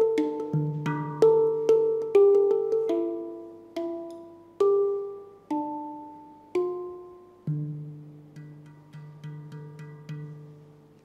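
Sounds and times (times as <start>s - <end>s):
handpan slow melody: 0.0s - 11.0s.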